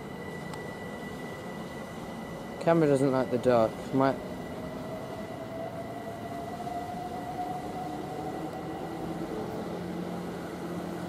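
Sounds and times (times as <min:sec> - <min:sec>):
electric train motor whine: 0:00.0 - 0:11.0.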